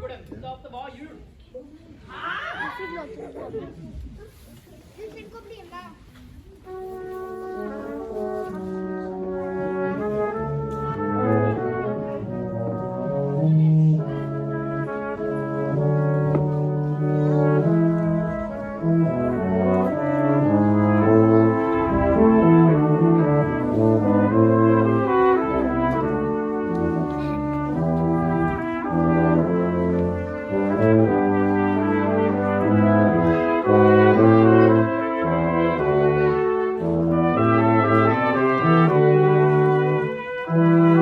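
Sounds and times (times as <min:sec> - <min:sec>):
brass quartet playing chords: 0:06.7 - 0:41.0.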